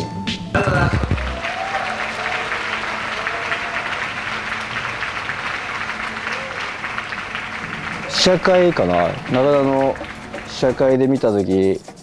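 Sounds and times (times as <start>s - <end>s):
audience applauding: 0.7s - 11.1s
faint crowd voices: 1.5s - 11.1s.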